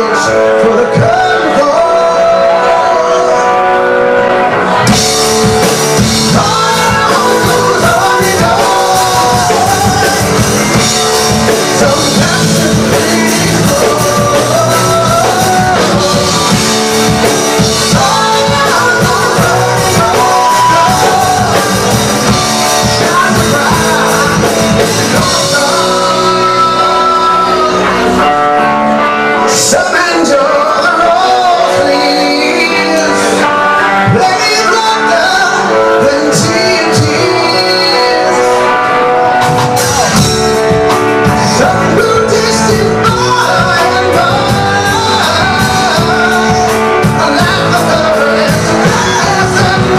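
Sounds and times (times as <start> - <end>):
drum kit: 0.0 - 49.9
lead vocal singing: 0.0 - 49.9
rock band playing: 0.0 - 49.9.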